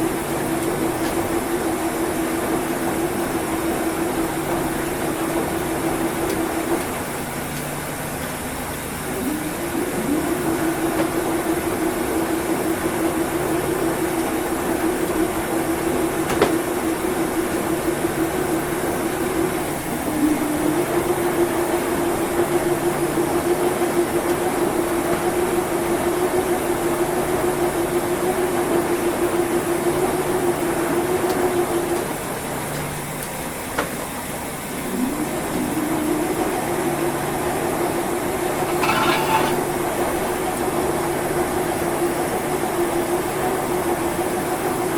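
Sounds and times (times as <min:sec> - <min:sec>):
washing machine motor humming: 0:00.0 - 0:44.9.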